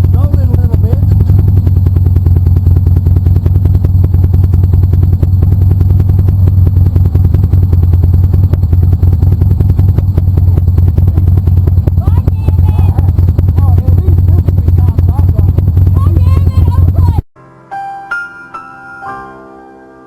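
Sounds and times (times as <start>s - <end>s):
motorcycle engine running: 0.0s - 17.3s.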